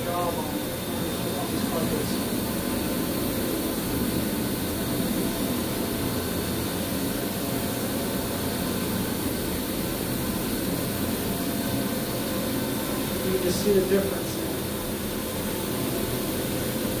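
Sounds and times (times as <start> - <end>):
carpet cleaning machine roaring: 0.0 - 17.0.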